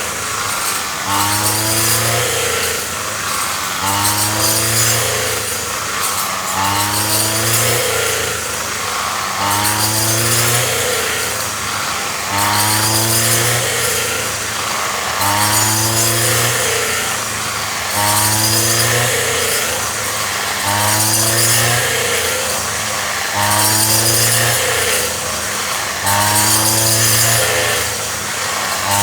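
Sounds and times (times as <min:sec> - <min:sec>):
rice threshing machine running: 0:00.0 - 0:29.0.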